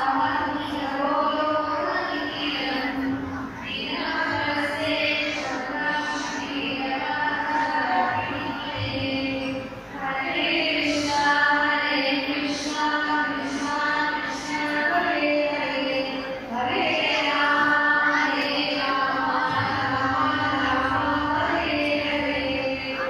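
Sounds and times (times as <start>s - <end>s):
voices singing a chant: 0.0s - 23.0s.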